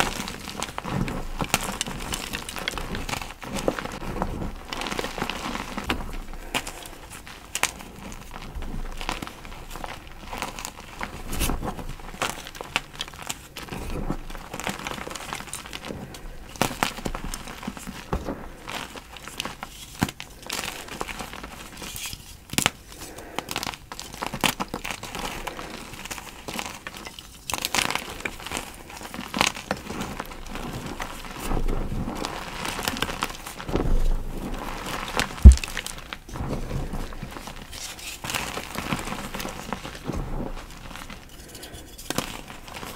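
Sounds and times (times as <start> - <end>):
chalk crunching and crumbling: 0.0 - 42.9.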